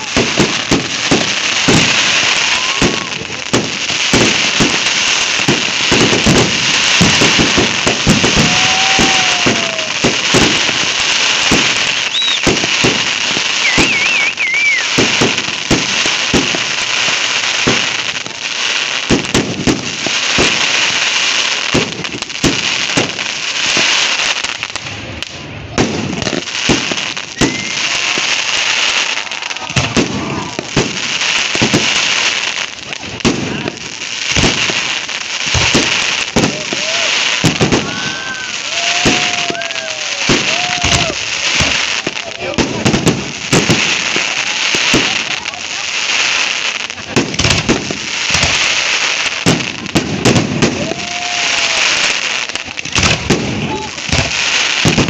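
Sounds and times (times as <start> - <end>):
bonfire crackling and popping: 0.0 - 55.0.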